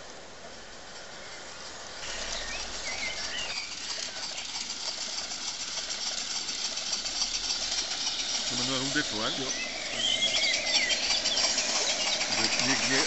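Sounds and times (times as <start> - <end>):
birds chirping: 0.5 - 13.0
steam locomotive hissing: 1.9 - 13.0.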